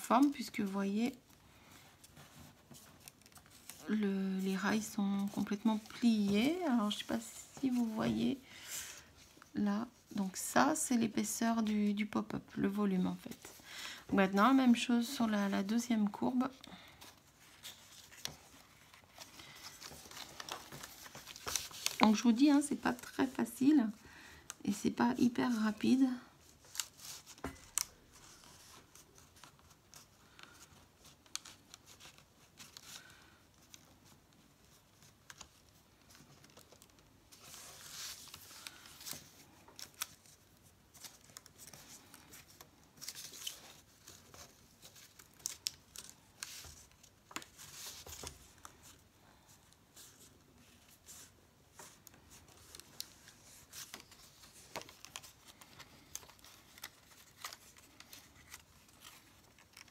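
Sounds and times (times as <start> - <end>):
cardstock rustling and crinkling: 0.0 - 59.9.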